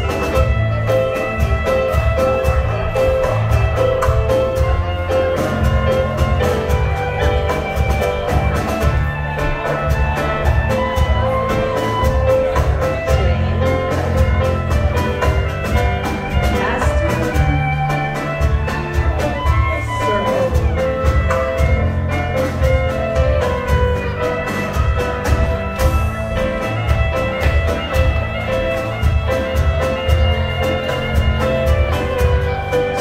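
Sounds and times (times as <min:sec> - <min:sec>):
live dance band playing: 0:00.0 - 0:33.0.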